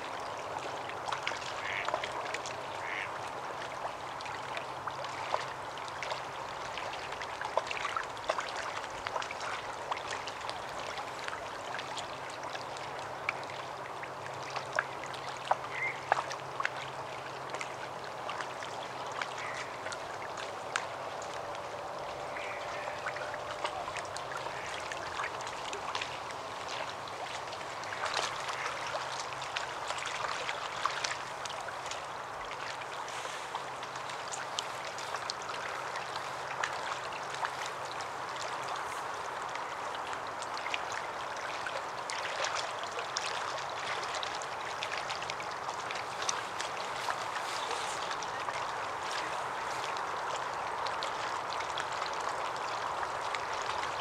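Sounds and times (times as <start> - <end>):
faint ticks and crackles: 0.0 - 54.0
rushing outdoor background noise: 8.0 - 54.0.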